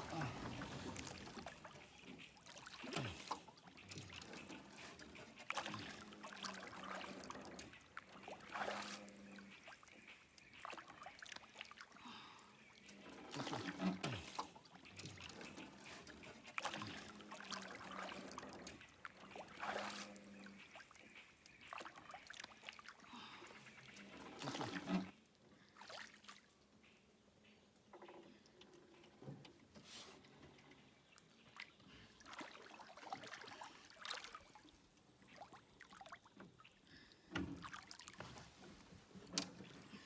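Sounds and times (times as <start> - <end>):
water splashing against boat: 0.0 - 25.2, 29.0 - 40.0.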